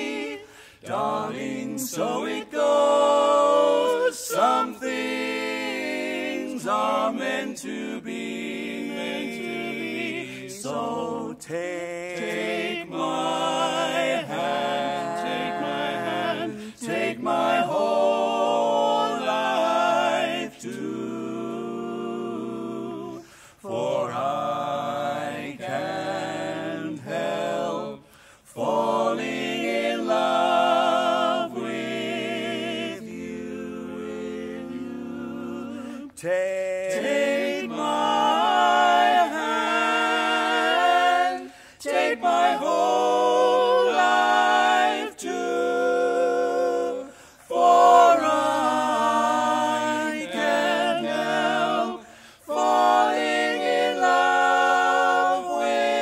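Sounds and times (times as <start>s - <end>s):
male quartet singing a cappella: 0.0s - 56.0s.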